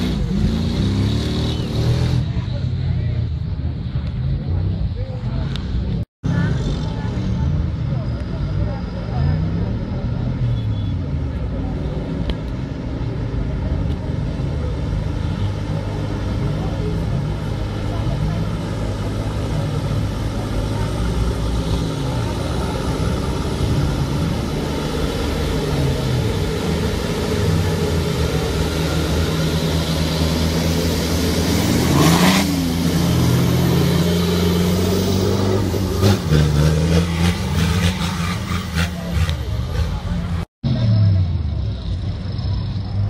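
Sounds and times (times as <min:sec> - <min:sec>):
buggy engines revving: 0:00.0 - 0:43.0.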